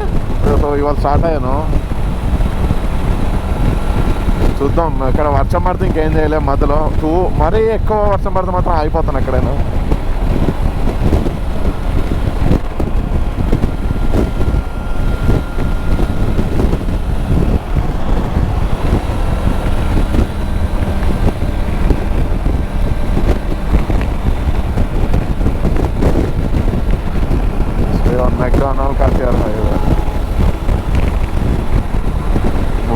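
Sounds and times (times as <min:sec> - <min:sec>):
motorcycle engine: 0:00.0 - 0:32.9
traffic: 0:00.0 - 0:32.9
wind buffeting microphone: 0:00.0 - 0:32.9.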